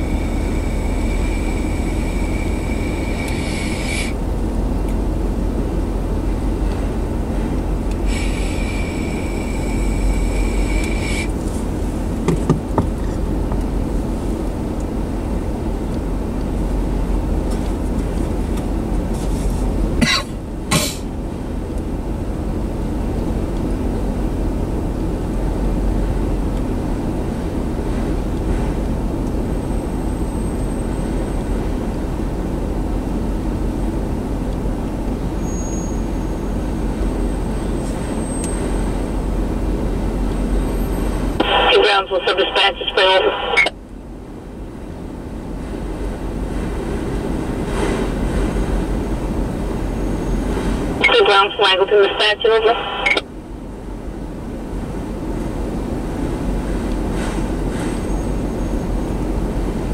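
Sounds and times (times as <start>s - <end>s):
freight wheels rumbling on rail: 0.0s - 41.4s, 42.8s - 51.1s, 52.8s - 59.9s.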